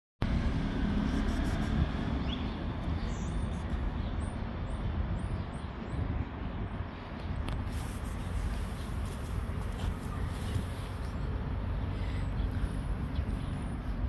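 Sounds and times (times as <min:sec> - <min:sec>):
outdoor rumble and hiss: 0:00.2 - 0:14.0.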